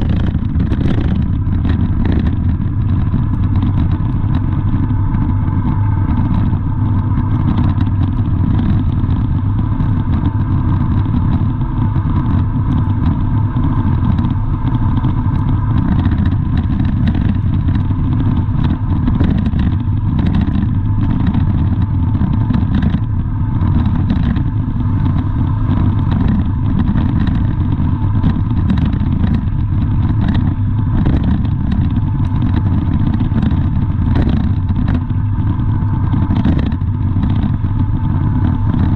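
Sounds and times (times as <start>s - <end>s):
engine and traffic drone: 0.0s - 38.9s
faint constant whine: 0.0s - 38.9s.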